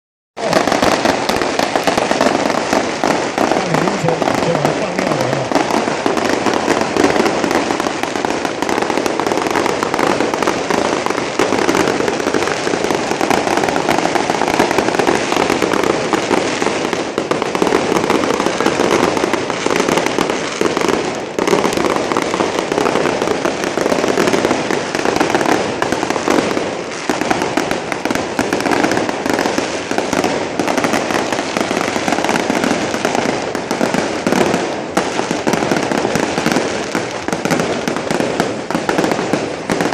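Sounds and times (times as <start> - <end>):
fireworks crackling: 0.4 - 39.9.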